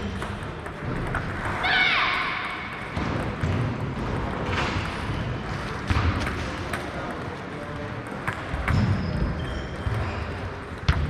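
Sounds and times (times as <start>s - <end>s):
table tennis ball bouncing: 0.0s - 7.3s, 8.0s - 11.0s
chatter in a large hall: 0.0s - 11.0s.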